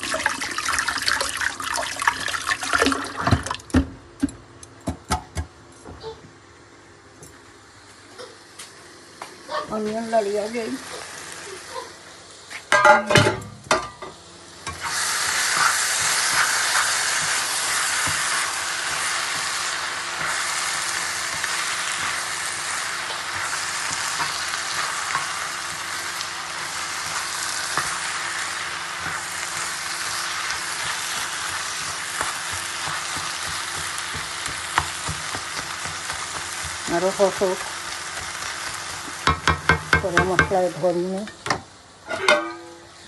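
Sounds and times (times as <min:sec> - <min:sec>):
onions sizzling in hot oil: 0:00.0 - 0:03.6, 0:08.7 - 0:43.0.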